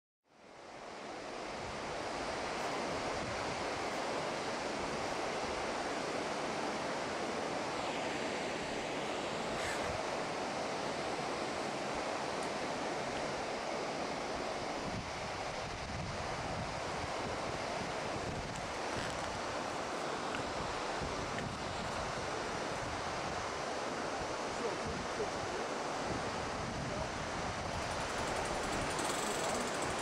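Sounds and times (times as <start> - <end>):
wind: 0.2 - 30.0
rushing water: 0.6 - 30.0.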